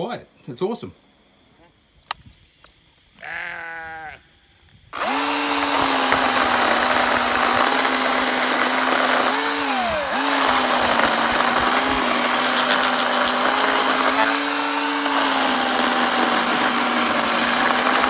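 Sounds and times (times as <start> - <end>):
chainsaw electric whine: 3.2 - 18.0.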